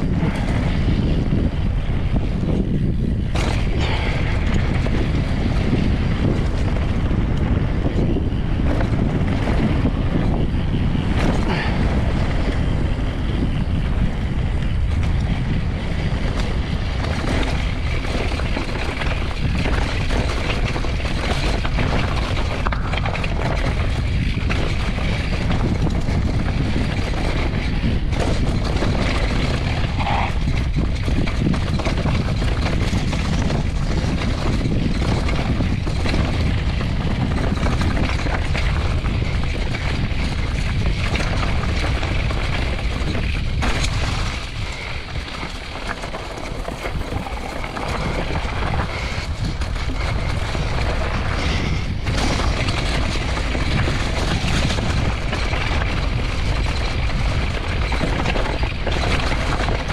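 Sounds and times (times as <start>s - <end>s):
bike rattling over bumps: 0.0s - 59.9s
wind buffeting microphone: 0.0s - 59.9s.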